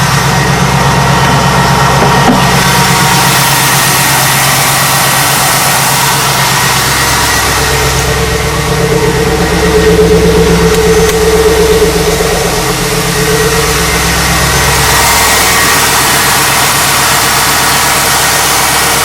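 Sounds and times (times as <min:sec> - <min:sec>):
steady mid-pitched hum: 0:00.0 - 0:16.1
car engine idling: 0:00.0 - 0:19.0.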